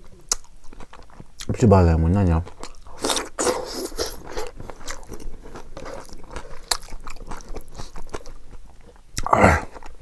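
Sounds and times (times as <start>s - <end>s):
person chewing crunchy vegetable: 0.0s - 10.0s.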